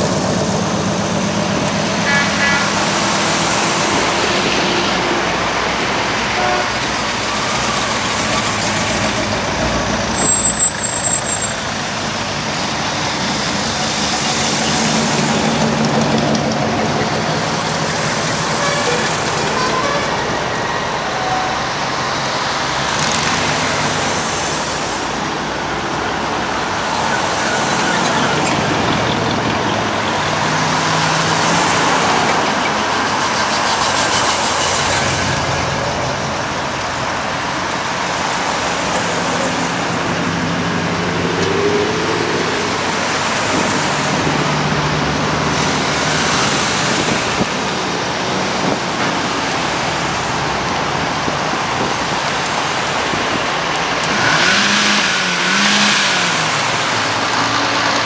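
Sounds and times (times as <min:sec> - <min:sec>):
cars driving past: 0:00.0 - 0:58.0
tyres on asphalt: 0:00.0 - 0:58.0.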